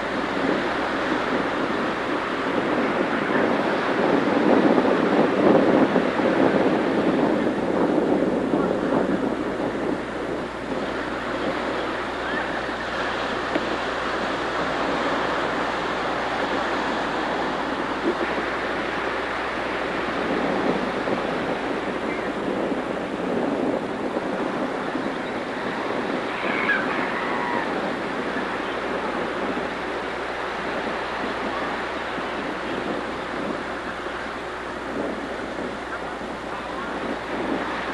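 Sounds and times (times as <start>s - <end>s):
ocean surf washing ashore: 0.0s - 37.9s.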